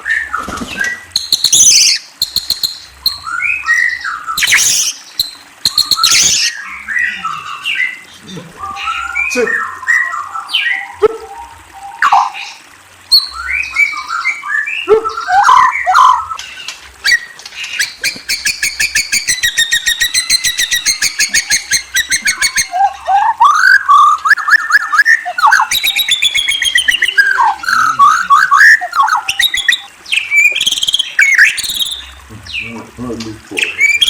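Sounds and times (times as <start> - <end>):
songbird whistling and trilling: 0.0 - 8.0, 8.6 - 12.5, 13.1 - 16.4, 17.0 - 32.2, 33.6 - 34.0.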